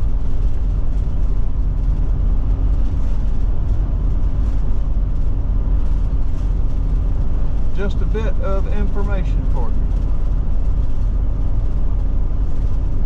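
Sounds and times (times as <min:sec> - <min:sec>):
faint steady hum: 0:00.0 - 0:13.0
motorhome road and engine rumble: 0:00.0 - 0:13.0.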